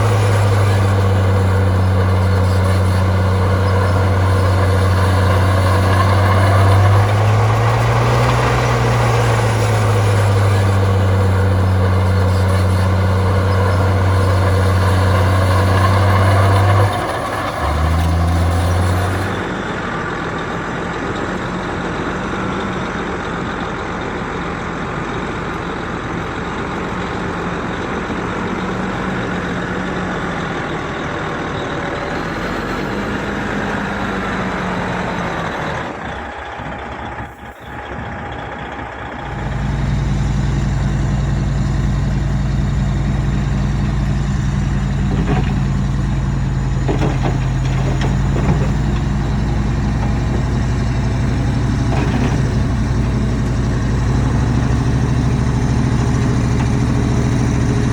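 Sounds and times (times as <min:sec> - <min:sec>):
deep heavy diesel engine: 0:00.0 - 0:57.9
diesel machinery engine drone: 0:00.0 - 0:57.9.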